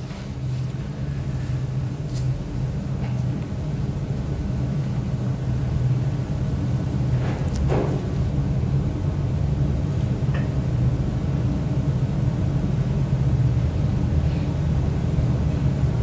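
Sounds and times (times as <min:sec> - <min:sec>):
low hum and rumble of hall: 0:00.0 - 0:16.0.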